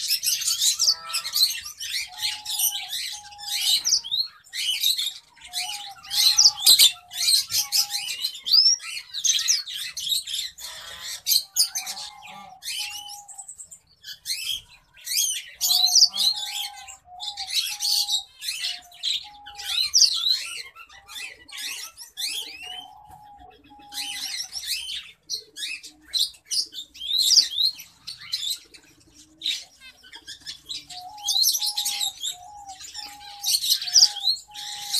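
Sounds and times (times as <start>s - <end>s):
small birds chirping rapidly: 0.0s - 34.9s.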